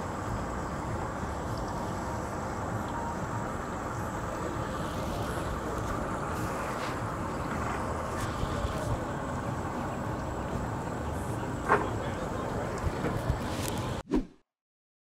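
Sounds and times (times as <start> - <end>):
boat engines idling: 0.0 - 14.0.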